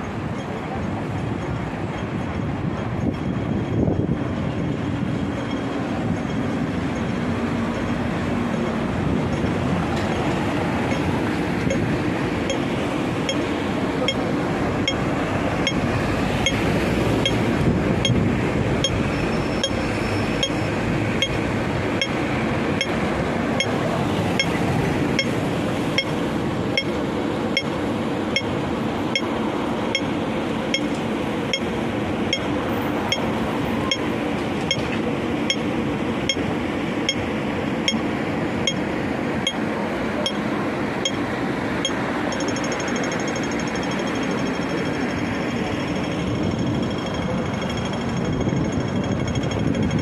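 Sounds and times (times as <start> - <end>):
street and traffic noise: 0.0 - 50.0
crossing signal ticking: 5.3 - 23.0, 23.6 - 23.8, 24.4 - 26.2, 26.8 - 29.3, 29.9 - 34.1, 34.7 - 34.9, 35.5 - 40.4, 41.0 - 50.0.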